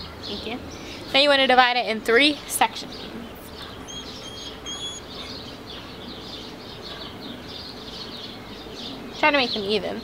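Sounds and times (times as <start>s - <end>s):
birds chirping: 0.0s - 10.0s
low outdoor hum: 0.0s - 10.0s.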